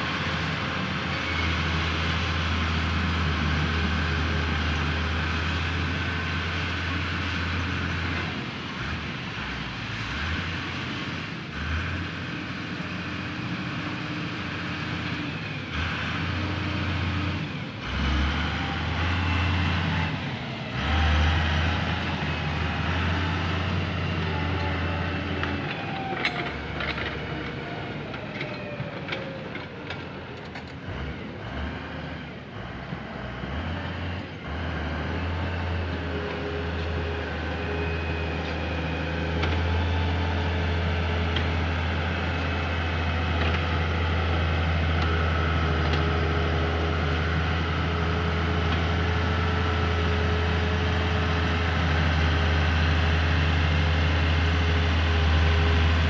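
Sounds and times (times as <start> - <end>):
grader diesel engine humming: 0.0 - 56.0.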